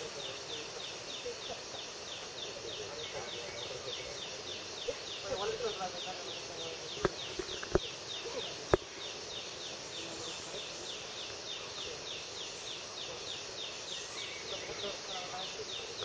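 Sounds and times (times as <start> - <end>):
high even hiss: 0.0 - 16.0
insects chirping: 0.0 - 16.0.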